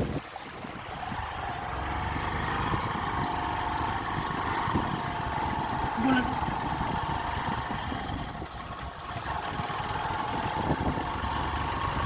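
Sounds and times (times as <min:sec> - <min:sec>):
motorbike engine running: 0:01.0 - 0:12.0.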